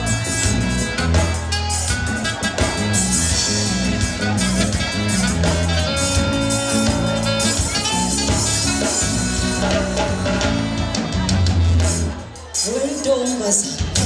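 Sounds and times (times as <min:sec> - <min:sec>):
bass line: 0:00.0 - 0:12.8
drum kit: 0:00.0 - 0:14.0
keyboard: 0:00.0 - 0:14.0.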